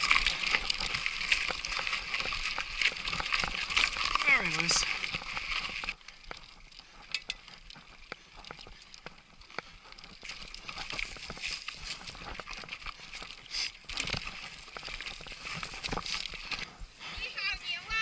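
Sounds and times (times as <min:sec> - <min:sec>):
bike rattling over rocks: 0:00.0 - 0:16.8
bike tyres crunching on stones: 0:00.0 - 0:17.1.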